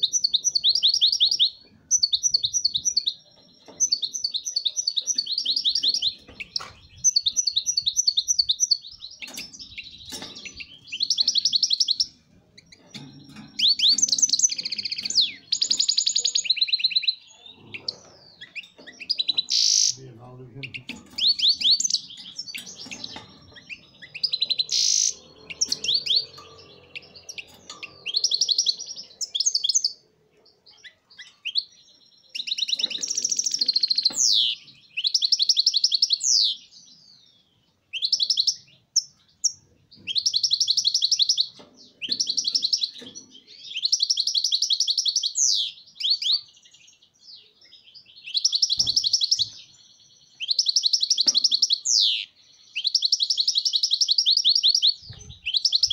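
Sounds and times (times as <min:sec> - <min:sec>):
goldfinch singing: 0:00.0 - 0:55.9.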